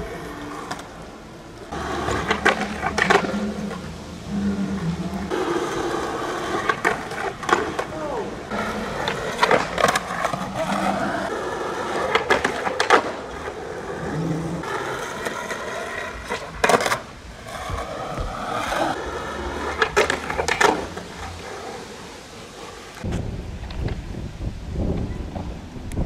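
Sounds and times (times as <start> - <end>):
skateboard clacking: 0.0 - 24.1
skateboard wheels rolling on asphalt: 0.0 - 26.0.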